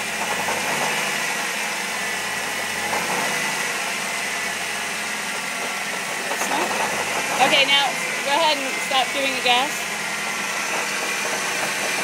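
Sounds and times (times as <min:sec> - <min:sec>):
car engine rumbling: 0:00.0 - 0:12.0
engine high whine: 0:00.0 - 0:12.0.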